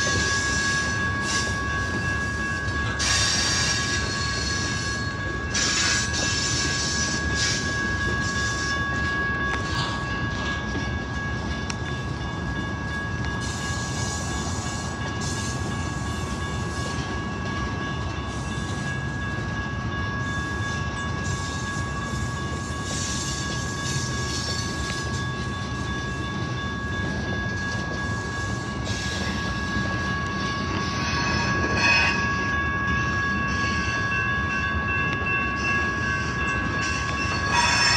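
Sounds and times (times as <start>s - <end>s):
freight train wheels rumbling: 0.0s - 37.9s.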